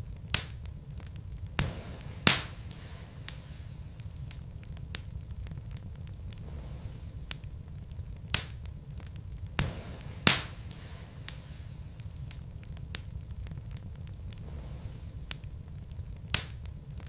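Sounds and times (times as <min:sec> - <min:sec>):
logs crackling in fireplace: 0:00.0 - 0:17.0
low steady rumble: 0:00.0 - 0:17.0.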